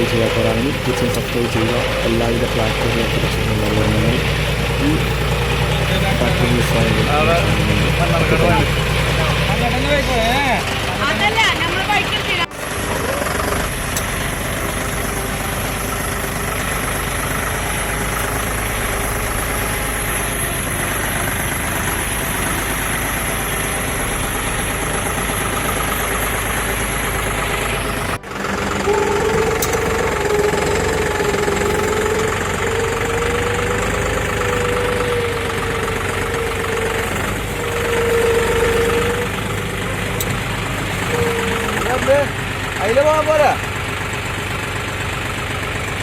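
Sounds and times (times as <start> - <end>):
wavering whine: 0.0 - 43.6
tractor diesel engine running: 0.0 - 46.0.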